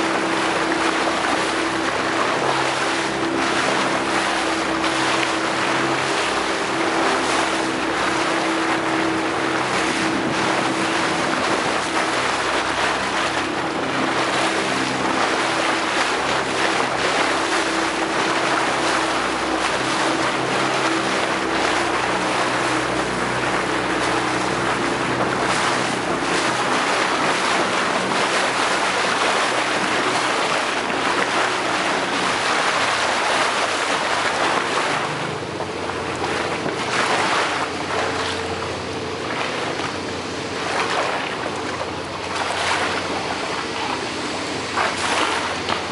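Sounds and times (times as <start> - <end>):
boat engine running: 0.0 - 45.9
water rushing along hull: 0.0 - 45.9.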